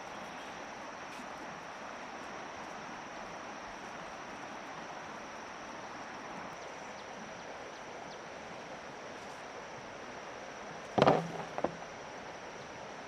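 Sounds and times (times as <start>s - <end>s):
high insect drone: 0.0s - 13.0s
rushing outdoor noise: 0.0s - 13.0s.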